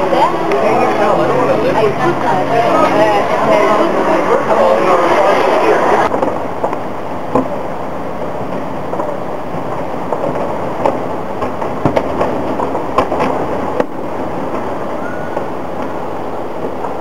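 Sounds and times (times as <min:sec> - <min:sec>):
rushing background noise: 0:00.0 - 0:17.0.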